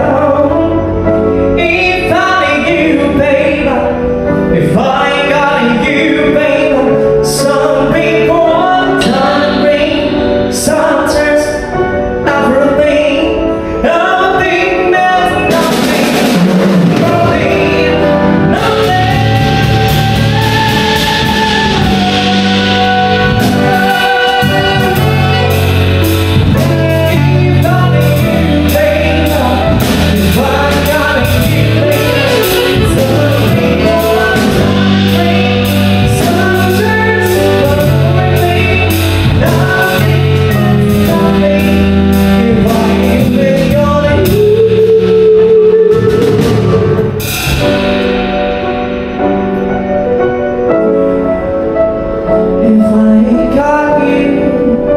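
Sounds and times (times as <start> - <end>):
song with band and singing: 0.0 - 49.6.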